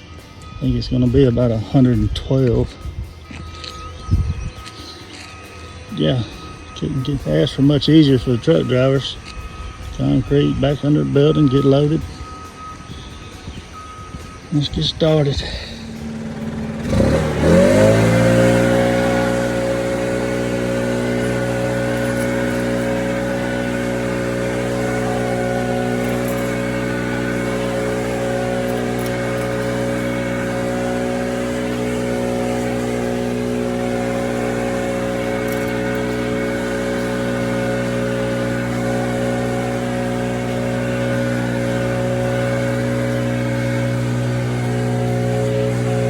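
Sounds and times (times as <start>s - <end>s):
diesel engine revving up: 2.6s - 46.0s.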